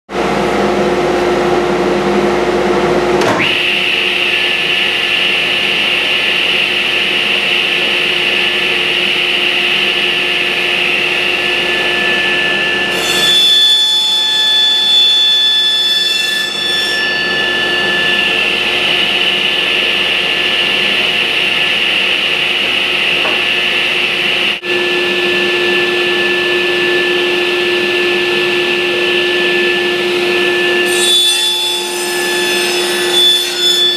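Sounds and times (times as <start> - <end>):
table saw whining: 3.1 - 33.9.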